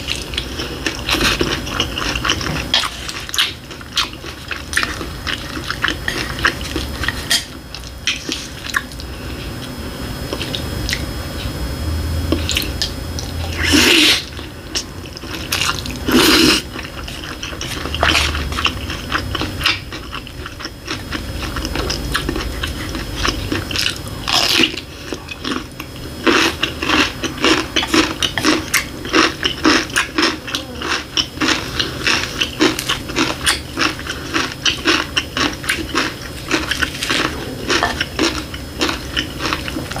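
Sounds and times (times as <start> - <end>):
chewing and crunching food: 0.0 - 40.0.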